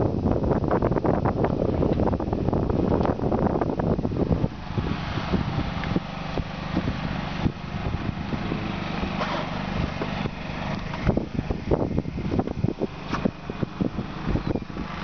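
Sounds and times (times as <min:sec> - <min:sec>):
wind on the microphone: 0:00.0 - 0:15.0
small boat engine running: 0:02.3 - 0:15.0.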